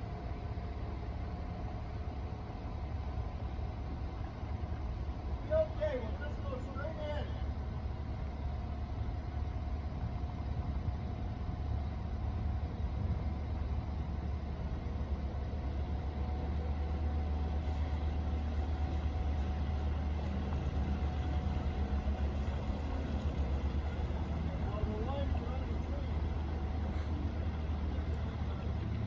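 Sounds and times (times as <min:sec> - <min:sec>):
boat engine rumbling: 0:00.0 - 0:29.0.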